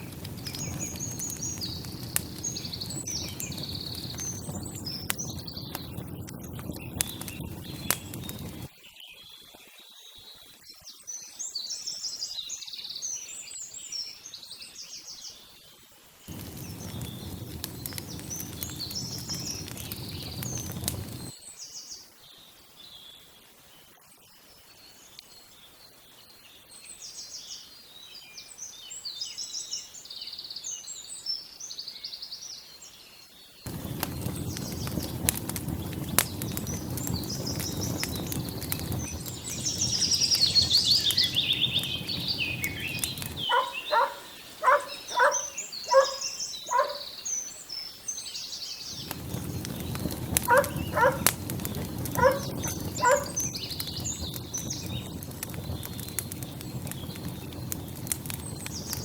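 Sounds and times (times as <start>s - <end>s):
small birds chirping: 0.0s - 10.2s, 16.2s - 22.1s, 24.9s - 59.0s
outdoor background noise: 0.0s - 59.0s.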